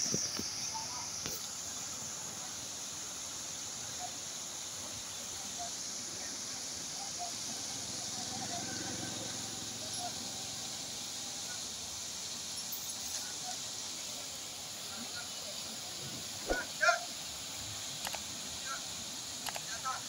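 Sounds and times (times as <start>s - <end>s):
river water rushing over rapids: 0.0s - 20.0s.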